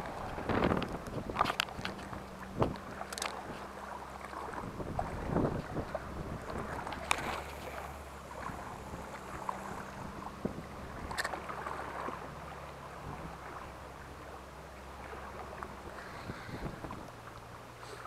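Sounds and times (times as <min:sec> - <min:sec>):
low steady hum: 0:00.0 - 0:18.0
sea water washing around boat: 0:00.0 - 0:18.0.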